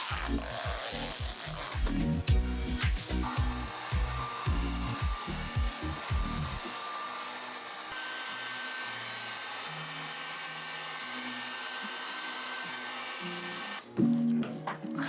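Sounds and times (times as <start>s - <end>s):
heat gun blowing: 0.0s - 13.9s
quiet background music: 0.0s - 15.0s.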